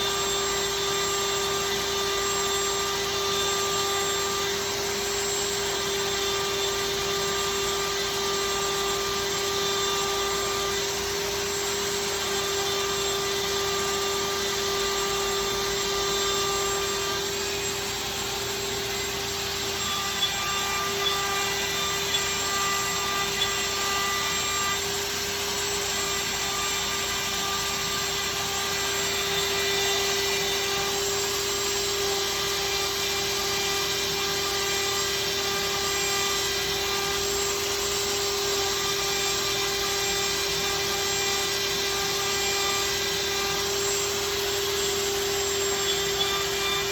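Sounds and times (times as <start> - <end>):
cnc router whining: 0.0 - 46.9.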